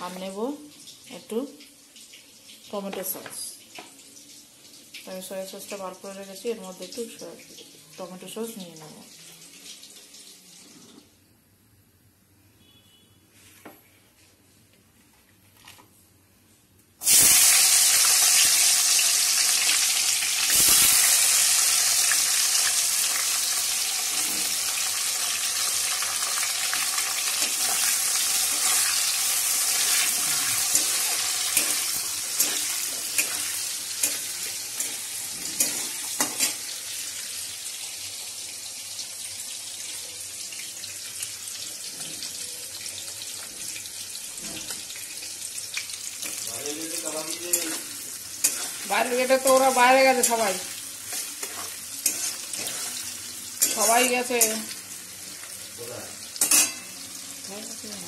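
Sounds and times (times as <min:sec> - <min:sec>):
vegetables sizzling in a wok: 0:00.0 - 0:11.2, 0:17.0 - 0:58.0.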